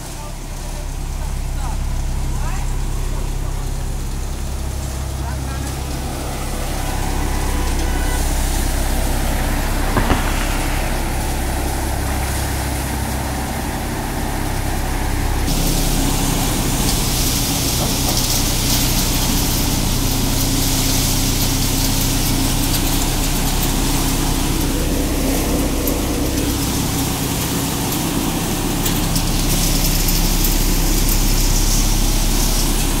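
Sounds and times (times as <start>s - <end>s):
tractor diesel engine running: 0.0s - 33.0s
threshing machine whirring and hissing: 3.1s - 33.0s.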